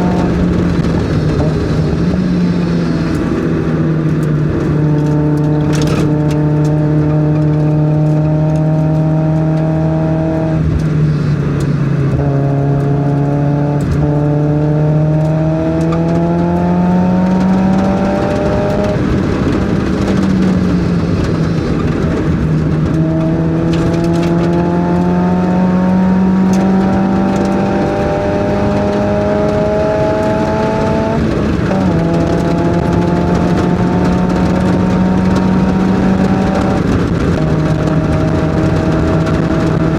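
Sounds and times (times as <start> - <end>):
car engine revving on track: 0.0 - 39.9.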